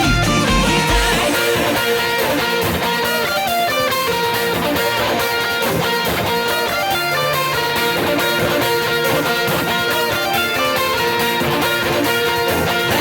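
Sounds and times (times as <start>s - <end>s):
electric guitar: 0.0s - 13.0s
rock band bass and drums: 0.0s - 13.0s.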